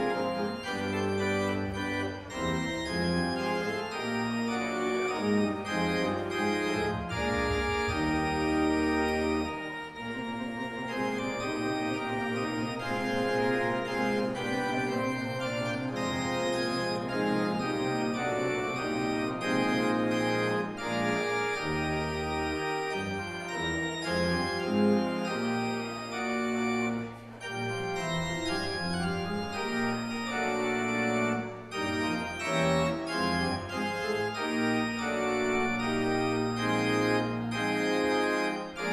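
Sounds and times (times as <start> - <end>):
church organ playing chords: 0.0 - 38.9.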